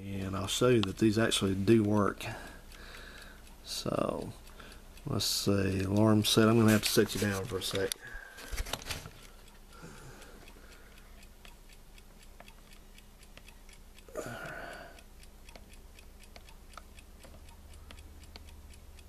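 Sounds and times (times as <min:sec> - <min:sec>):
alarm clock switches clicking: 0:00.0 - 0:19.0.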